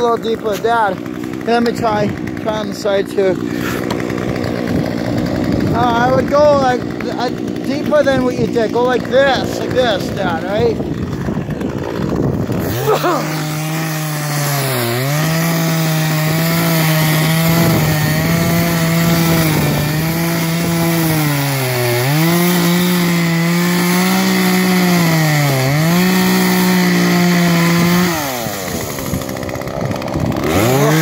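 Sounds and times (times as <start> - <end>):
chainsaw cutting ice: 0.0 - 31.0.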